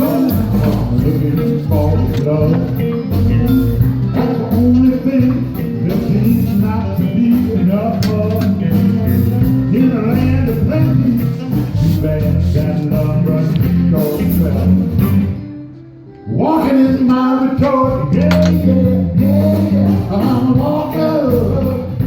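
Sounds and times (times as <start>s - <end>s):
man singing: 0.0s - 22.0s
rock and roll song: 0.0s - 22.0s.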